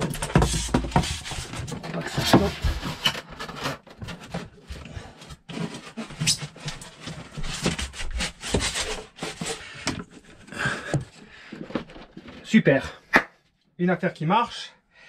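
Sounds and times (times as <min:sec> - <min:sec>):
wooden wedges knocking and scraping: 0:00.0 - 0:12.5.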